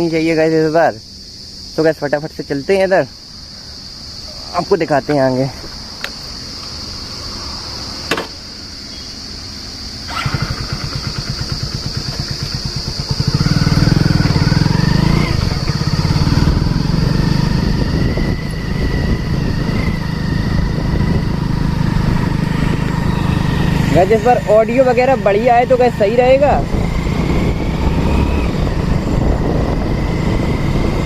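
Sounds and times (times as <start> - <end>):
crickets chirring: 0.0 - 31.0
motorcycle engine starting and revving: 6.0 - 31.0.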